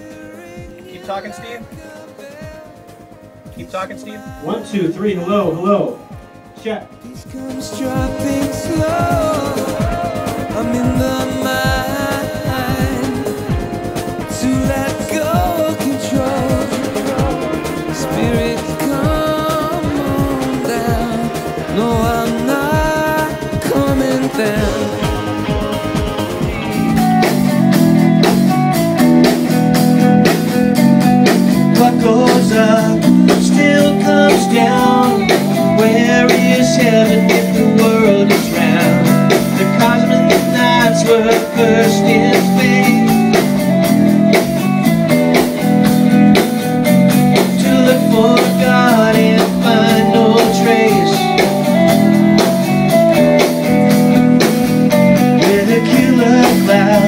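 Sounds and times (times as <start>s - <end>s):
person singing: 0.0s - 2.9s, 3.6s - 6.2s, 6.9s - 28.7s, 31.5s - 45.0s, 47.3s - 53.6s, 55.2s - 57.0s
drum kit: 0.0s - 57.0s
electric guitar: 0.0s - 57.0s.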